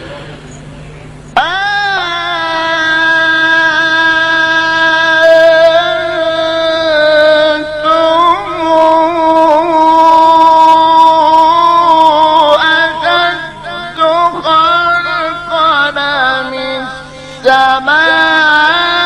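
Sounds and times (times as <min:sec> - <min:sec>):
man reciting melodically: 0:01.4 - 0:19.0.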